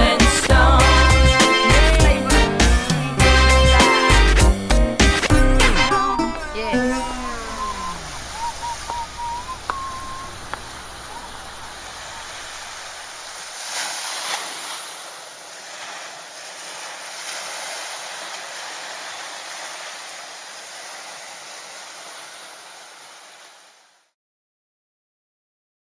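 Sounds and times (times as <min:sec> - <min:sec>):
ocean surf washing on beach: 0:00.0 - 0:04.2, 0:06.6 - 0:24.1.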